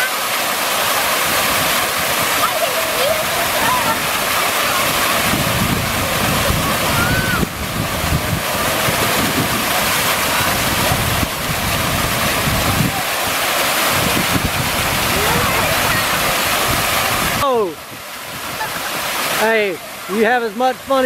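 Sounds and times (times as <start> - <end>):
fountain water splashing: 0.0 - 21.0
wind on microphone: 0.8 - 20.0.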